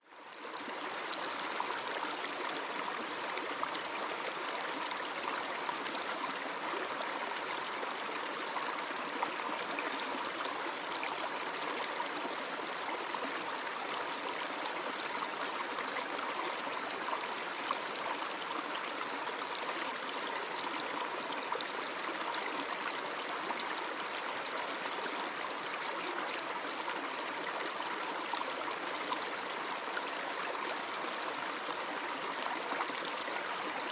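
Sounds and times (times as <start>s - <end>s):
stream of water rushing: 0.6s - 33.9s.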